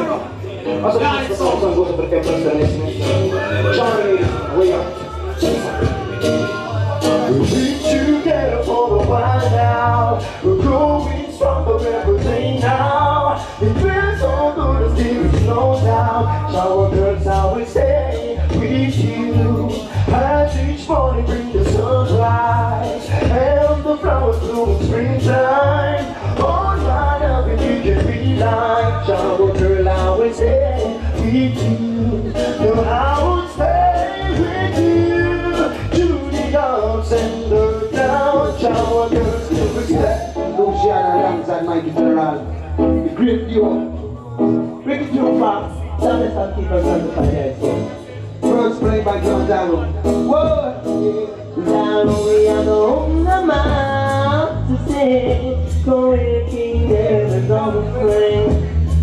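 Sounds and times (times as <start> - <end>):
heavy pulsing bass: 0.0 - 44.4, 52.1 - 59.0
person singing: 0.0 - 59.0.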